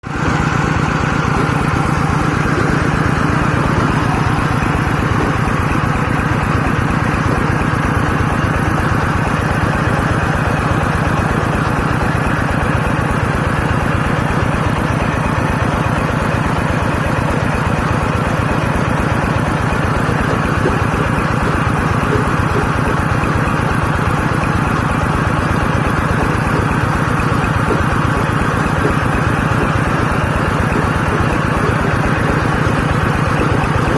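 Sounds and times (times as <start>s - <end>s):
drilling rig engine running: 0.0s - 33.9s.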